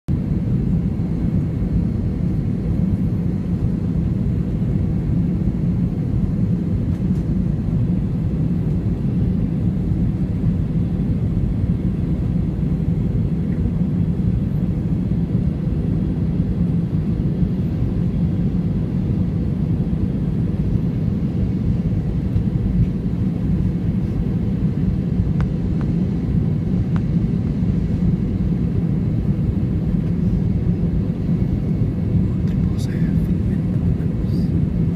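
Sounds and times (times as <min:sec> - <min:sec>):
aircraft engines rumbling: 0:00.1 - 0:34.9
airflow around fuselage: 0:00.2 - 0:34.9.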